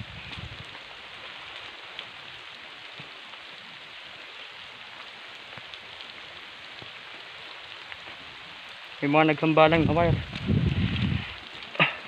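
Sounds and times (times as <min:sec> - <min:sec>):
steady rain: 0:00.0 - 0:12.0
raindrop ticks: 0:00.1 - 0:12.0.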